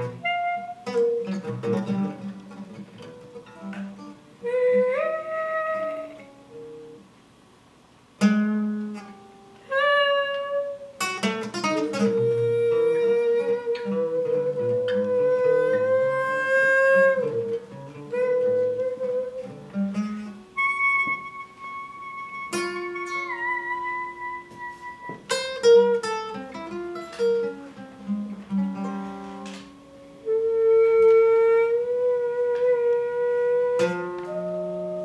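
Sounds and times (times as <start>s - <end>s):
wind instrument held tones: 0.0s - 2.3s, 3.0s - 7.0s, 9.6s - 35.0s
acoustic guitar plucking: 0.0s - 7.2s, 8.2s - 35.0s.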